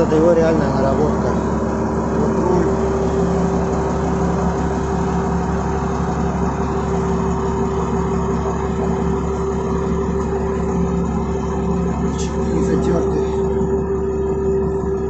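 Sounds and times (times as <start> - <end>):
forklift diesel engine idling: 0.0 - 15.0.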